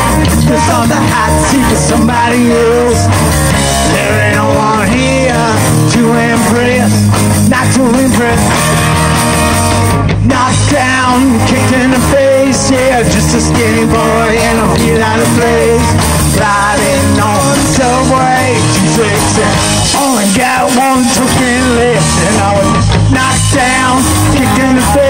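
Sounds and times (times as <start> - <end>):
bass guitar: 0.0 - 25.0
drums: 0.0 - 25.0
electric guitar lead: 0.0 - 25.0.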